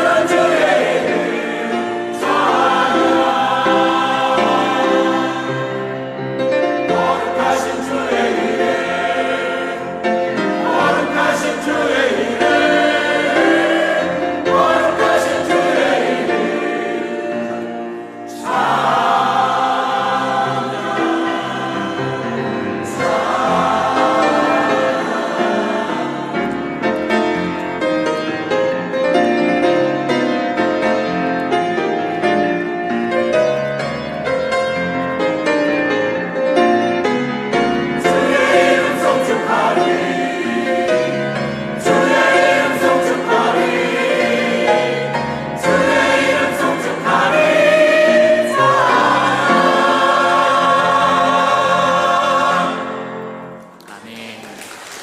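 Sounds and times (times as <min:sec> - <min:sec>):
choir singing a hymn: 0:00.0 - 0:53.8
steady musical accompaniment: 0:00.0 - 0:55.0.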